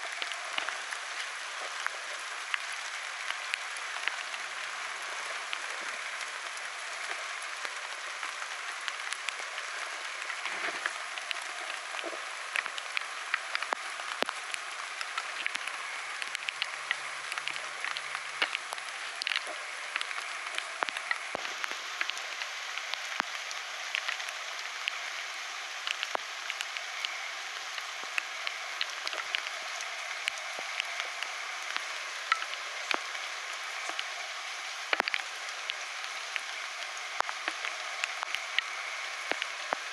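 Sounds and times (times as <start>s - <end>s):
raindrops ticking: 0.0s - 39.9s
steady rain hissing: 0.0s - 39.9s.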